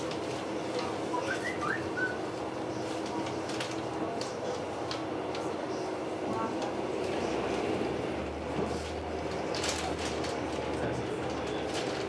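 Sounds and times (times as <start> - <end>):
train carriage running hum: 0.0 - 12.0.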